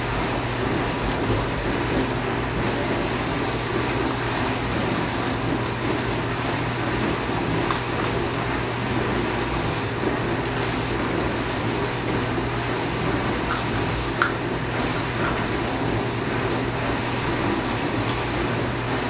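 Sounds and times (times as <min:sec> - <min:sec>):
dishwasher running: 0:00.0 - 0:19.0.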